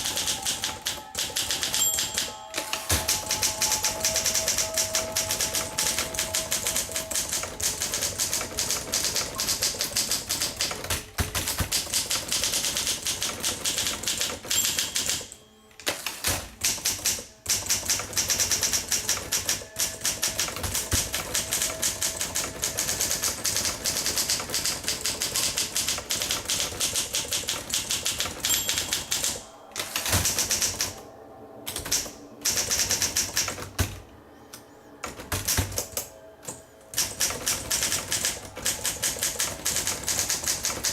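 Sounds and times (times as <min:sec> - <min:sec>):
manual typewriter typing: 0:00.0 - 0:31.0, 0:31.6 - 0:40.9.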